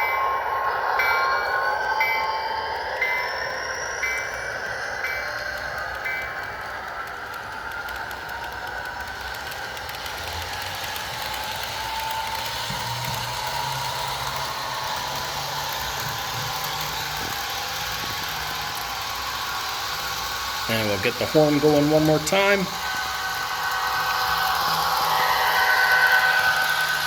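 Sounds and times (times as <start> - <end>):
model locomotive diesel engine sound: 0.0 - 27.0.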